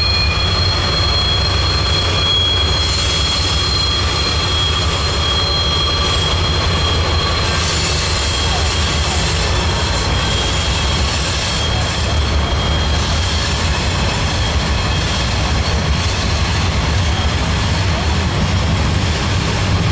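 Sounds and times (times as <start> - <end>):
high wheel squeal: 0.0 - 19.8
train wheels rumbling on rail: 0.0 - 19.9.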